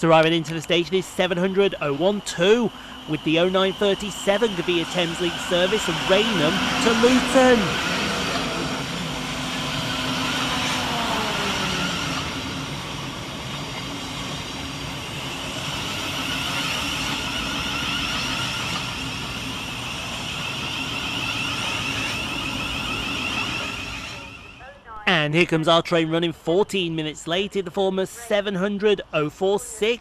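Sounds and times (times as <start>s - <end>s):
wheel and rail noise: 0.0s - 24.6s
train motor whine: 0.0s - 25.0s.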